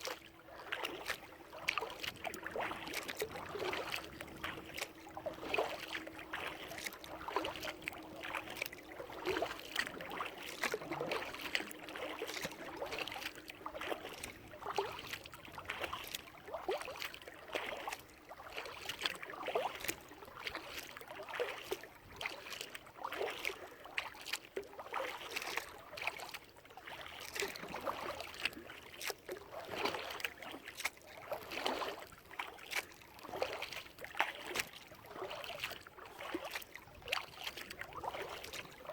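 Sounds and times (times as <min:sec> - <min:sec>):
kayak paddles splashing water: 0:00.0 - 0:38.9.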